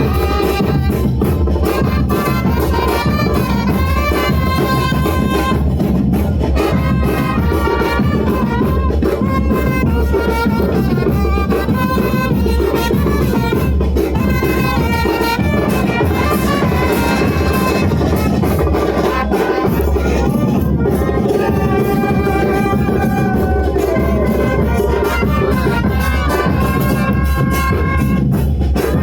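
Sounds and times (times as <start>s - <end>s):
music with brass and drums: 0.0s - 29.0s.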